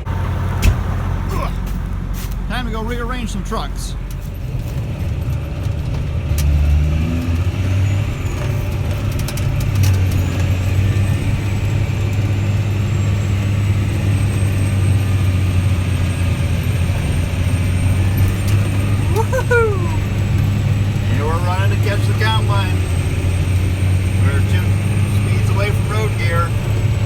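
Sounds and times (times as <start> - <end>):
tractor engine drone: 0.0 - 27.0.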